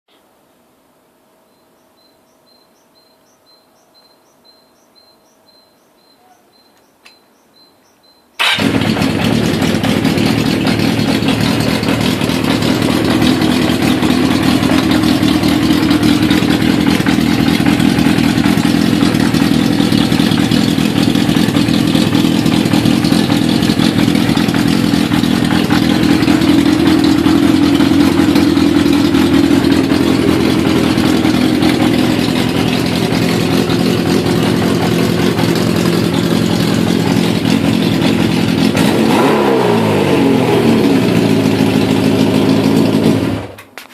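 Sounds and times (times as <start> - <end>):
motorcycle engine starting and running: 8.4 - 43.9.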